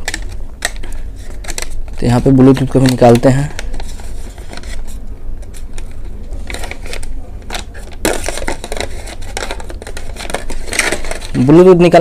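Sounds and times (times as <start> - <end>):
packaging rustling crinkle: 0.0 - 12.0.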